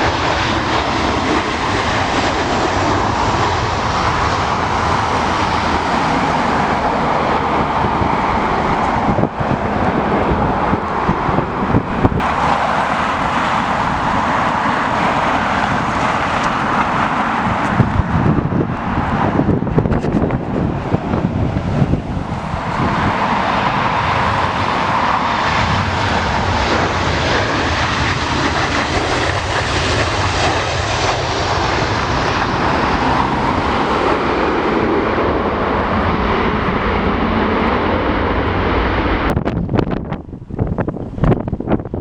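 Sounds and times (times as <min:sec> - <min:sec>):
jet airliner engines passing: 0:00.0 - 0:42.0.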